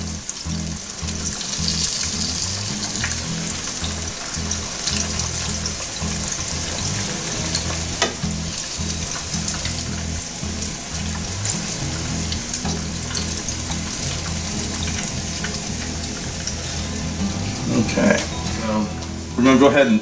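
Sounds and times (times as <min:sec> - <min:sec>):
oil sizzling in a pan: 0:00.0 - 0:20.0.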